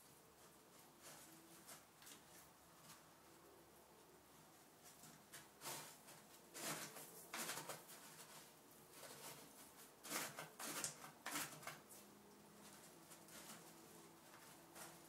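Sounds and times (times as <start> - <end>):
cat paws scratching plastic: 0.4 - 3.1, 4.8 - 15.0.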